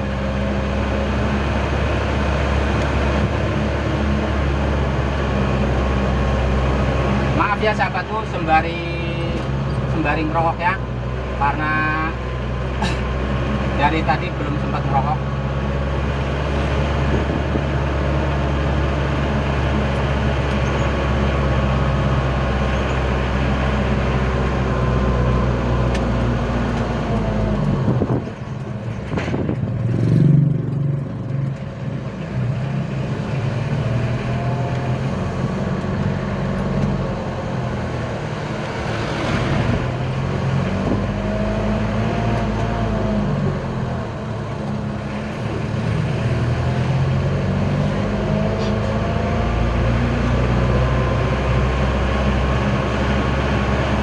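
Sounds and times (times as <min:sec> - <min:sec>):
pickup engine droning: 0:00.0 - 0:54.0.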